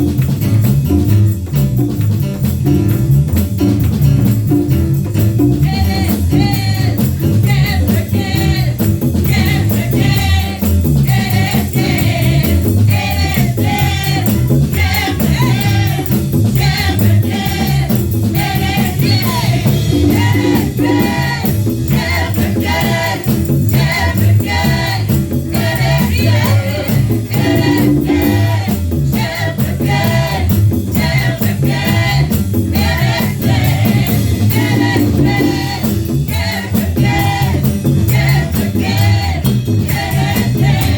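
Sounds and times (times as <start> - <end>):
gospel band playing: 0.0 - 40.9
tambourine: 0.0 - 40.9
group singing: 5.4 - 40.9.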